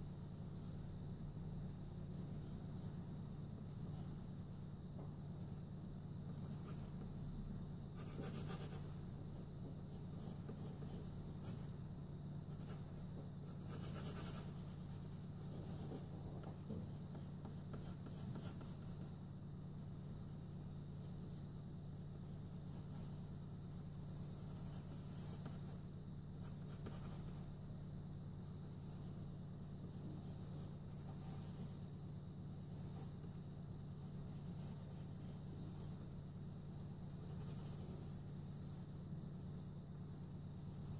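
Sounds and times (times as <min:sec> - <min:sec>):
steady low hum: 0:00.0 - 0:40.9
pencil scratching on paper: 0:02.0 - 0:03.0, 0:05.3 - 0:07.3, 0:07.9 - 0:11.8, 0:12.5 - 0:27.5, 0:28.4 - 0:40.9.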